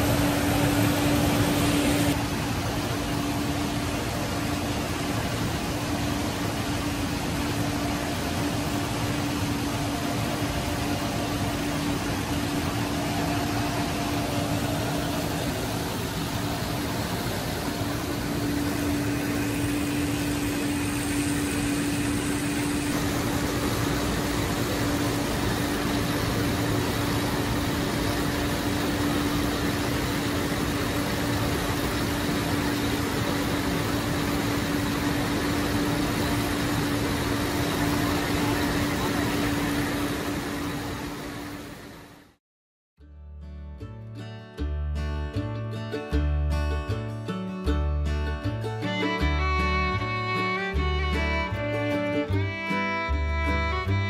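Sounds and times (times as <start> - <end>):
tractor engine: 0.0 - 42.0, 48.2 - 54.0
constant hum: 0.0 - 42.3, 48.7 - 54.0.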